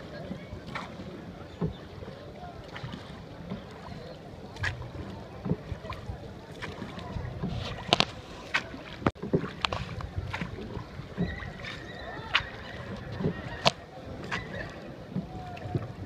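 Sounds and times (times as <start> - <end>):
faint distant voices: 0.0 - 16.0
steady water and air: 0.0 - 16.0
water splashing: 0.0 - 16.0.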